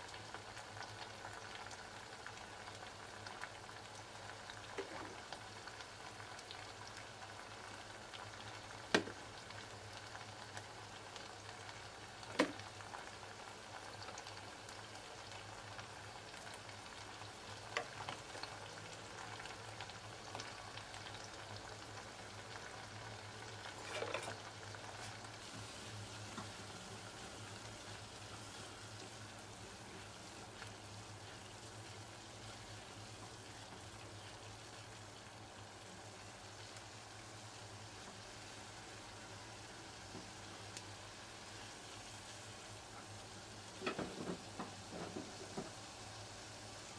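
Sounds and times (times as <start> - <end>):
sauce sizzling in a pan: 0.0 - 46.9.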